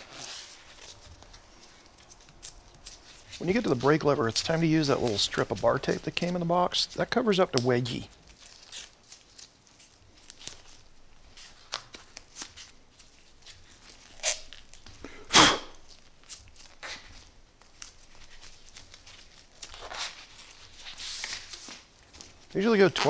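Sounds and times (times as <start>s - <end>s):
handlebar tape rustling and rubbing: 0.0s - 23.0s.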